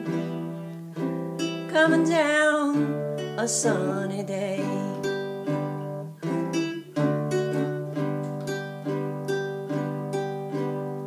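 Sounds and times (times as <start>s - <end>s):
ukulele strumming chords: 0.0s - 11.0s.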